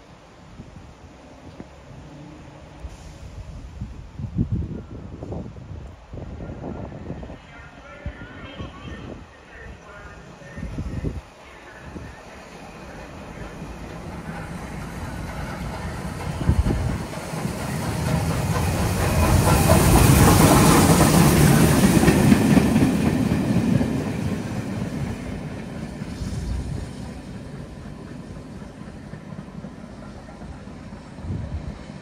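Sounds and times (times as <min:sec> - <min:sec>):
steam train passing: 0:00.0 - 0:32.0.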